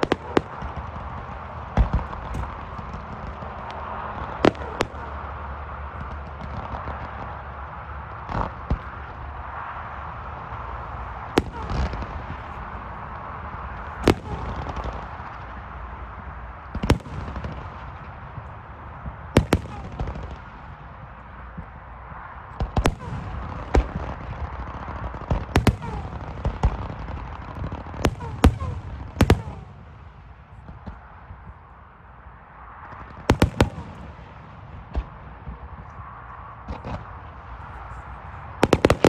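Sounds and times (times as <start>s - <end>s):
fireworks crackle: 0.0s - 31.5s, 32.7s - 39.0s
fireworks bangs: 0.0s - 31.8s, 32.8s - 39.0s
low background noise: 0.0s - 39.0s.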